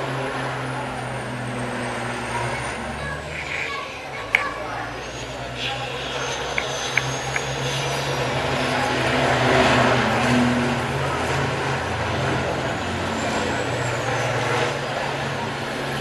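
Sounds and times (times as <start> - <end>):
race truck engines passing: 0.0 - 16.0.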